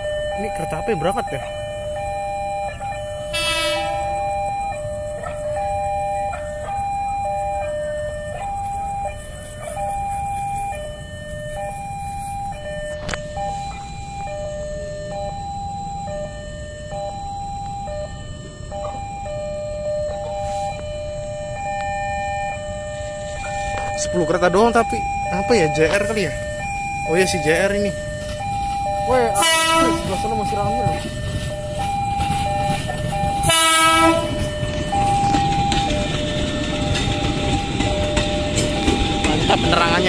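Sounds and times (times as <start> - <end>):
level crossing two-tone alarm: 0.0 - 40.0.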